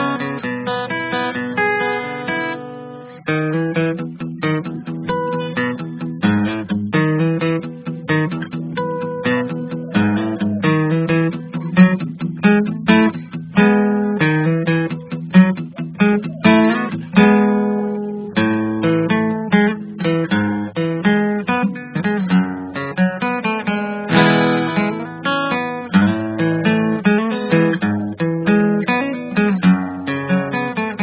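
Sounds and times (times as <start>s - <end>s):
acoustic guitar music: 0.0s - 31.0s.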